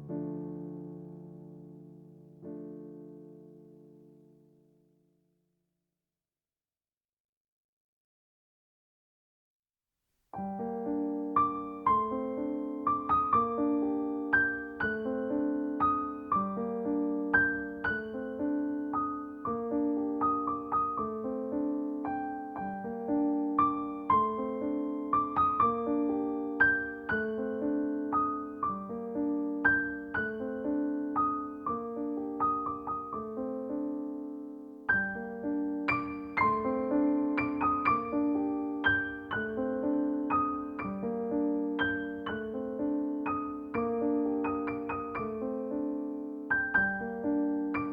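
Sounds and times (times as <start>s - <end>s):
solo piano music: 0.0s - 5.2s, 10.3s - 47.9s.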